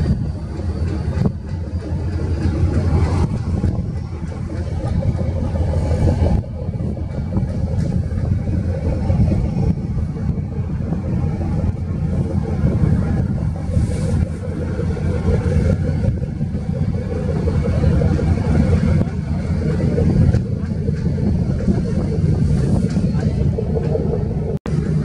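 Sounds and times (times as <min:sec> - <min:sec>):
hiss of wind and water: 0:00.0 - 0:25.0
ship engines rumbling: 0:00.0 - 0:25.0.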